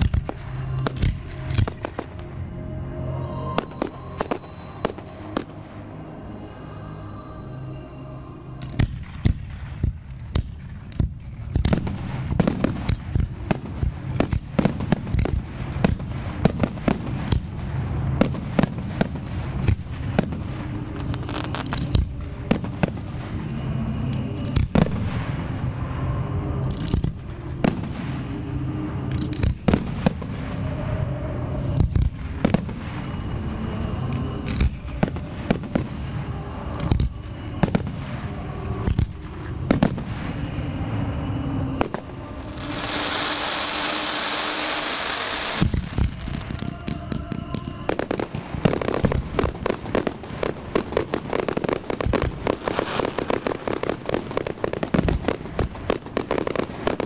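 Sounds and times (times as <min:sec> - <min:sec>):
fireworks bangs: 0:00.0 - 0:02.5, 0:03.3 - 0:06.0, 0:08.6 - 0:57.0
low rumble: 0:00.0 - 0:57.0.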